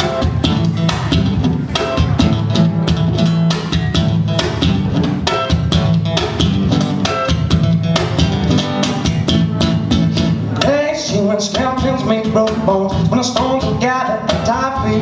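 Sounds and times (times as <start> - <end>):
bass: 0.0 - 15.0
drum kit steady beat: 0.0 - 15.0
guitar: 0.0 - 15.0.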